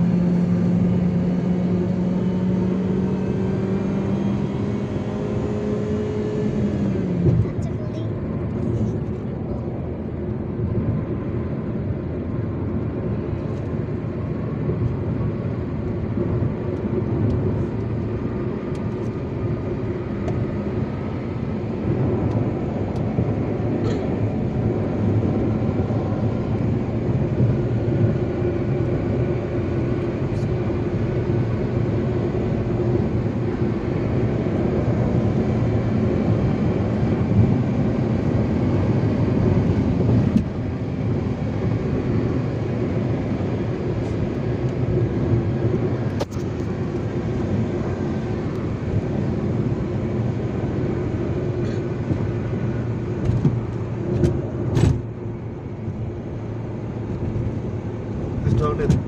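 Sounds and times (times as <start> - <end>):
tyre and engine noise in car: 0.0 - 59.0.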